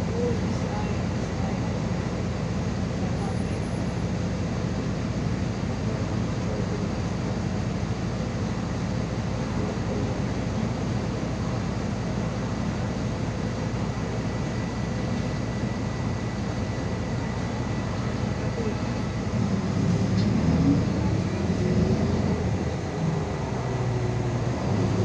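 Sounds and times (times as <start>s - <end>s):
bus engine and road noise drone: 0.0s - 25.0s.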